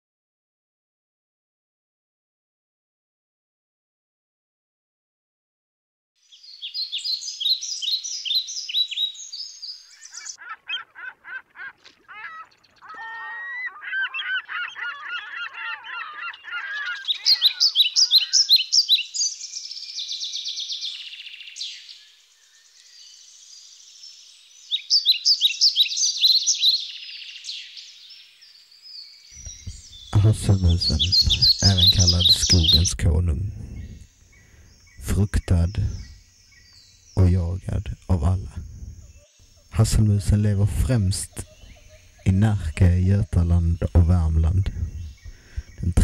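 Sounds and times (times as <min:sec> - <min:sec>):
birds chirping: 0:06.2 - 0:46.0
chorus of lower bird calls: 0:06.2 - 0:46.0.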